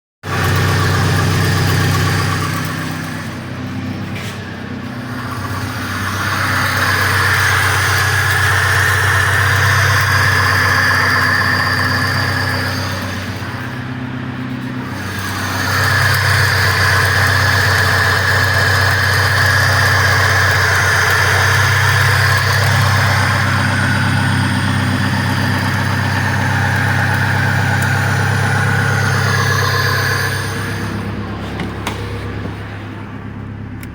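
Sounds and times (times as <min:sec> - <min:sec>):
car engine running with a knock: 0:00.2 - 0:33.9.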